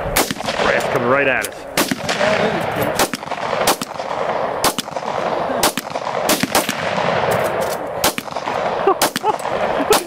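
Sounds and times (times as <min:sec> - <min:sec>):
gunshots: 0:00.0 - 0:10.0.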